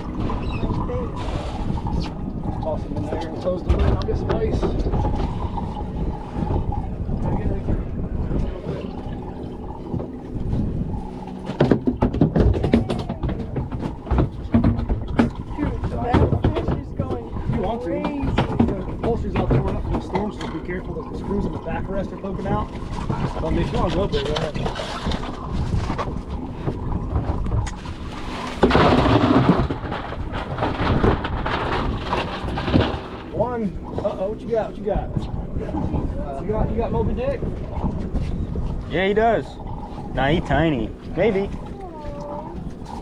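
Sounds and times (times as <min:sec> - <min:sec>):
low steady hum: 0:00.0 - 0:43.0
wind buffeting microphone: 0:00.0 - 0:43.0.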